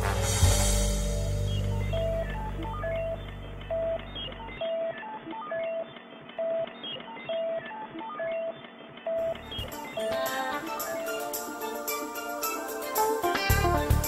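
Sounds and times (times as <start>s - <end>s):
filtered electronic music beeps: 0.1s - 14.0s.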